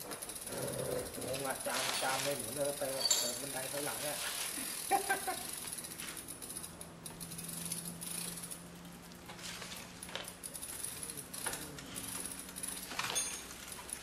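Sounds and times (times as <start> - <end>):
light rattles: 0.0 - 14.0
motorized bicycle humming: 0.0 - 14.0.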